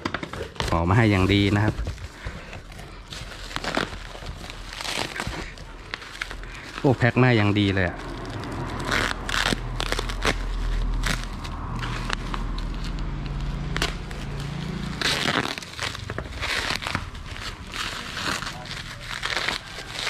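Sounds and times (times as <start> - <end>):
bubble wrap crinkling: 0.0 - 20.0
packing tape peeling: 0.0 - 20.0.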